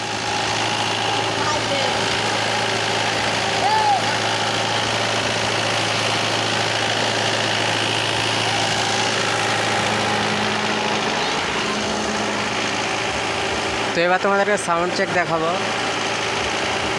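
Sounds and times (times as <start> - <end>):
diesel generator droning: 0.0 - 16.9.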